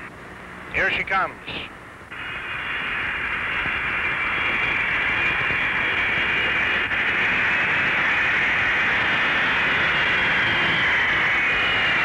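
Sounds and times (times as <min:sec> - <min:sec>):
jet engines hissing: 0:00.0 - 0:12.0.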